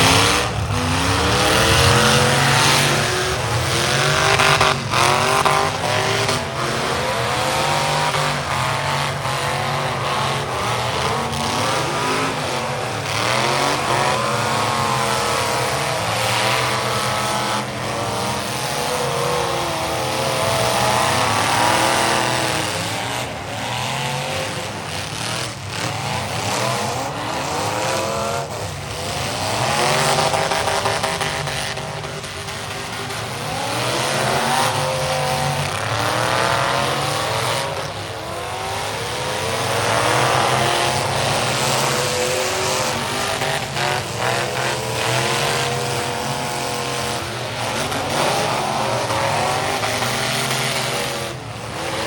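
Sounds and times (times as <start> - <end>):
car engines revving: 0.0 - 52.0
cars crashing: 0.0 - 52.0
tires squealing: 0.0 - 52.0.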